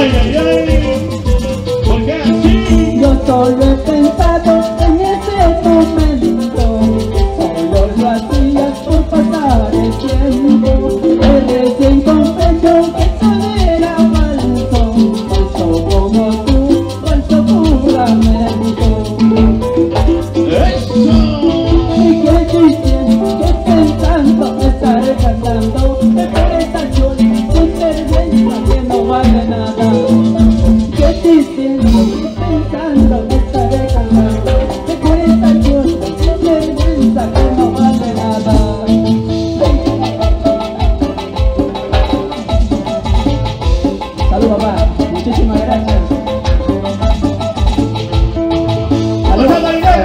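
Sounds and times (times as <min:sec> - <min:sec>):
shaker ticking: 0:00.0 - 0:32.2, 0:33.0 - 0:50.0
bass guitar: 0:00.0 - 0:50.0
electric guitars: 0:00.0 - 0:50.0
live band playing latin dance music: 0:00.0 - 0:50.0
percussion beat: 0:00.0 - 0:50.0.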